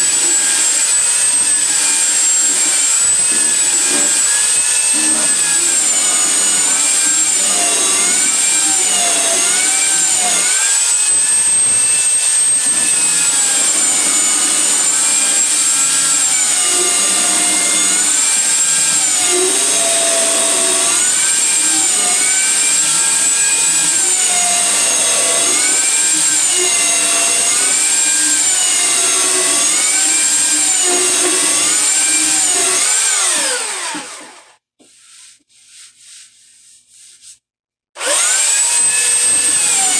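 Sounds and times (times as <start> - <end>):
electric sander on wood: 0.0 - 34.5, 38.0 - 39.9.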